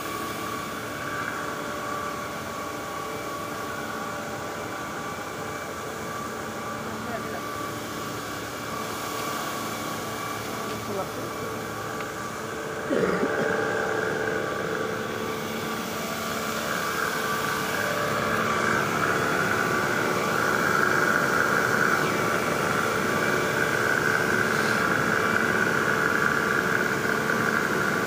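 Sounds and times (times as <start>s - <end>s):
high machine whine: 0.0s - 28.0s
vacuum pump hum: 0.0s - 28.0s.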